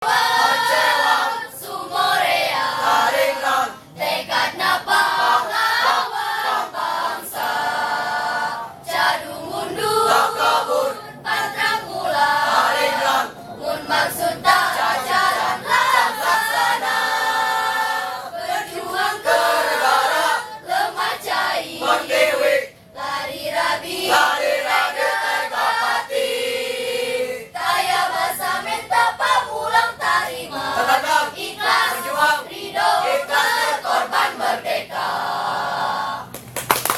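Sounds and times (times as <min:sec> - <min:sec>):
choir of young voices singing: 0:00.0 - 0:36.3.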